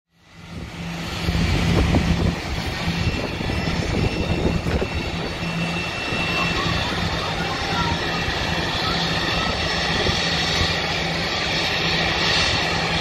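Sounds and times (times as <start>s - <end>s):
jet airliner low rumble: 0.1s - 13.0s.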